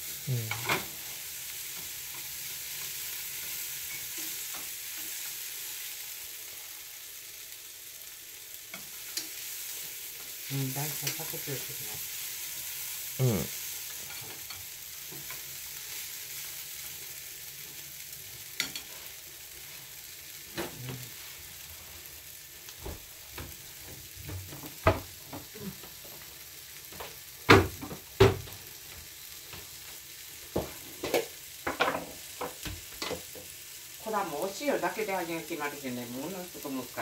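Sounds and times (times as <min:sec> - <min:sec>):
vegetables sizzling in a pan: 0:00.0 - 0:37.0.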